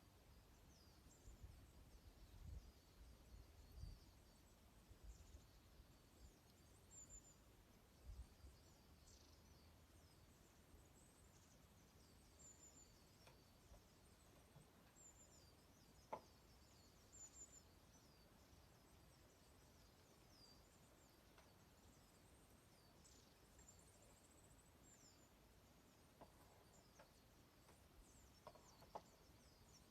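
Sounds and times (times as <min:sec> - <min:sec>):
small songbirds chirping: 0:00.0 - 0:29.9.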